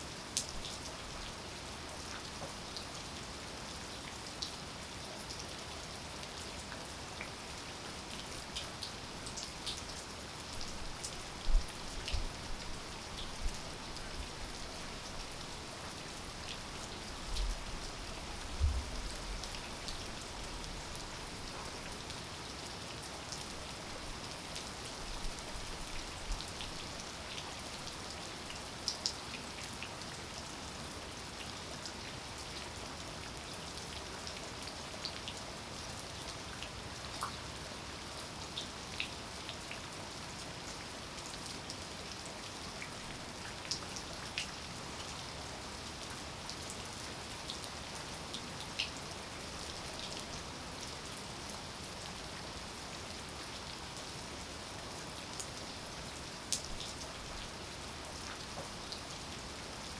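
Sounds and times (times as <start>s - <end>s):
rain falling: 0.1s - 59.9s
raindrops ticking on surfaces: 0.3s - 2.9s, 5.2s - 35.7s, 36.3s - 59.8s.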